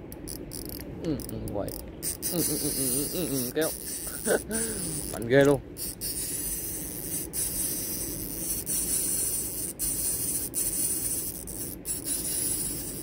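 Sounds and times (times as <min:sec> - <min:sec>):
fishing reel clicks: 0:00.1 - 0:05.2, 0:05.8 - 0:13.0
fishing reel winding hiss: 0:00.2 - 0:13.0.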